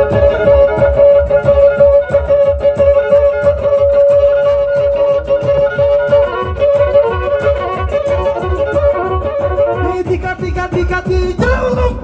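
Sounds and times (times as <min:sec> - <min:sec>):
bowed fiddle folk dance tune: 0:00.0 - 0:12.0
fast low beat: 0:00.0 - 0:12.0.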